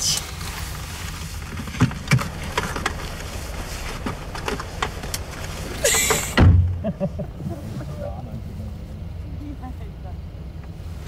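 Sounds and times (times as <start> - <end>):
car engine idling: 0.0 - 11.0
passengers rustling and knocking: 0.0 - 11.0.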